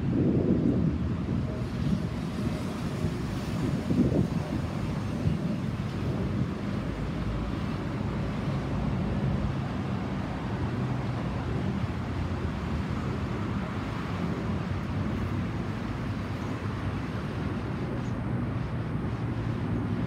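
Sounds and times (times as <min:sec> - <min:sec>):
distant jet engines rumbling overhead: 0:00.0 - 0:20.0
street traffic noise: 0:00.0 - 0:20.0.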